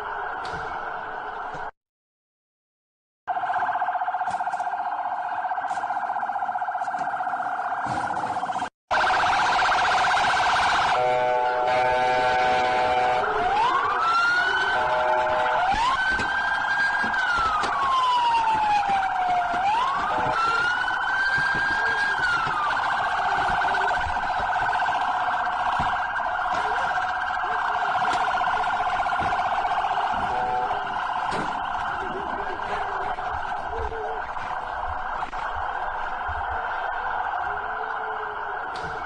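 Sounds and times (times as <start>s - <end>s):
police siren wail: 0.0s - 1.7s, 3.3s - 39.0s
police siren yelp: 0.0s - 1.7s, 3.3s - 39.0s.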